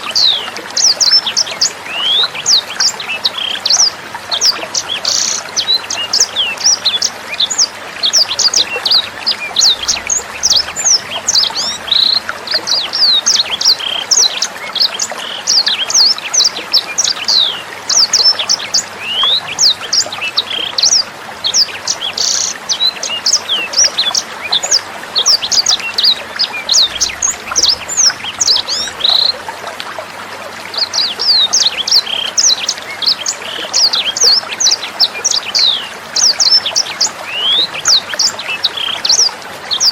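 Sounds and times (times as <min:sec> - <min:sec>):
songbird singing: 0:00.0 - 0:39.9
trickling water: 0:00.0 - 0:39.9.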